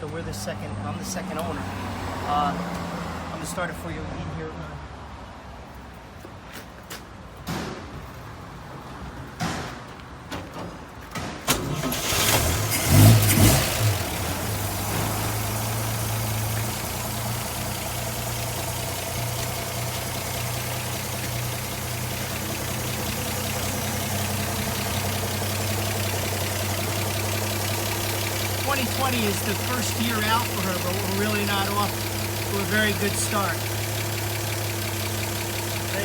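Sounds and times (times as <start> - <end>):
truck engine starting and idling: 0.0 - 4.0, 10.7 - 36.0.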